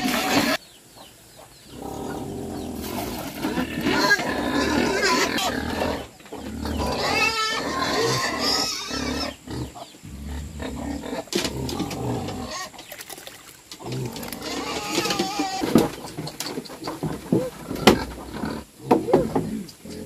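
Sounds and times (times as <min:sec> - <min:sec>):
pigs squealing: 0:00.0 - 0:00.6, 0:01.8 - 0:12.9, 0:13.7 - 0:20.0
pigs grunting: 0:01.7 - 0:12.9, 0:13.7 - 0:20.0.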